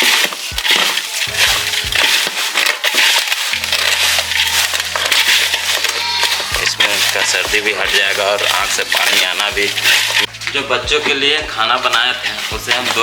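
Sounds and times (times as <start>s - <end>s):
background music: 0.0s - 13.0s
grain mash stirred by hand: 0.0s - 13.0s.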